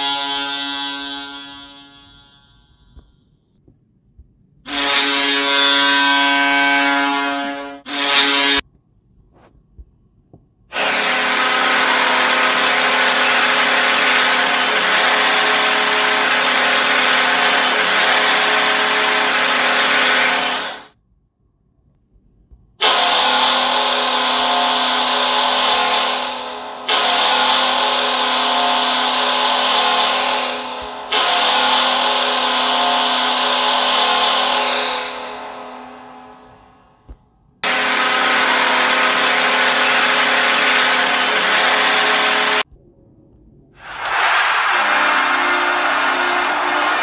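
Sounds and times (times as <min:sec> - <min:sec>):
goal horn blasts: 0:00.0 - 0:03.4, 0:04.7 - 0:08.6, 0:10.7 - 0:20.9, 0:22.8 - 0:42.6, 0:44.0 - 0:47.0.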